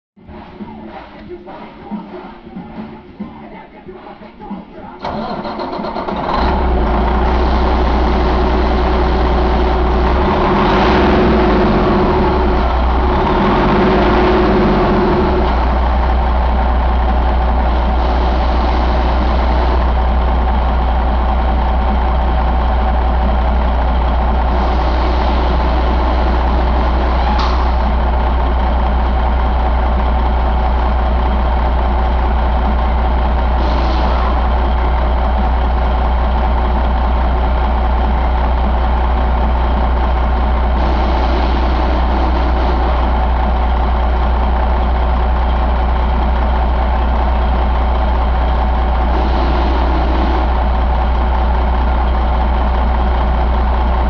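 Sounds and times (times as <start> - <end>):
diesel engine idling: 5.0 - 54.0.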